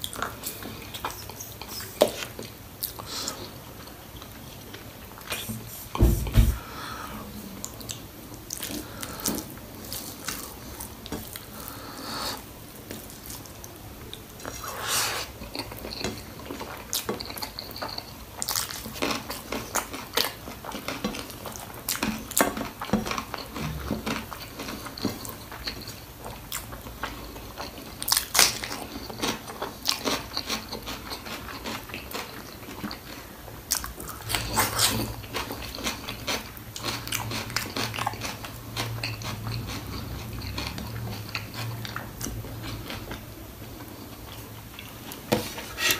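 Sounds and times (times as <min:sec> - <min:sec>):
mouth chewing and smacking: 0:00.0 - 0:05.5, 0:12.3 - 0:45.2.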